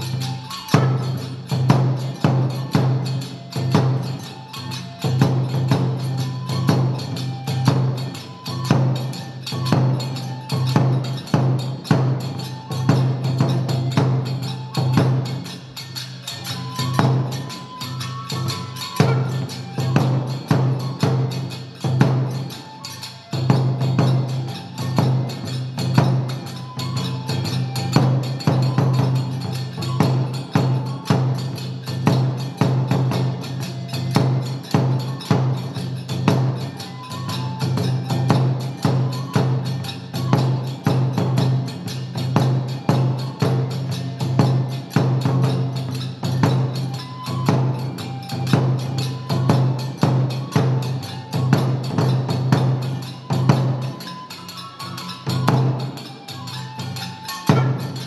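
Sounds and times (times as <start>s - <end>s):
drum beaten fast: 0.0s - 58.0s
flute notes: 0.0s - 58.0s.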